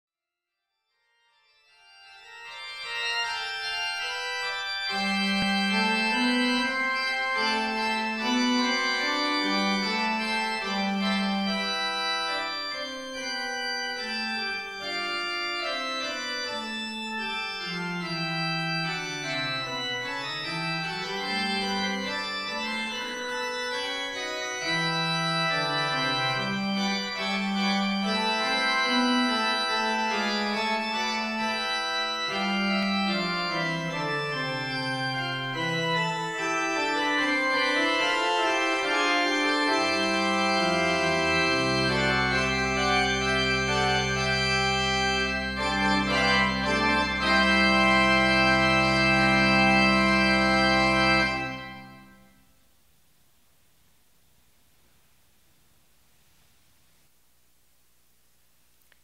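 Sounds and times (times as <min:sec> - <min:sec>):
church organ playing: 0:01.1 - 0:52.3.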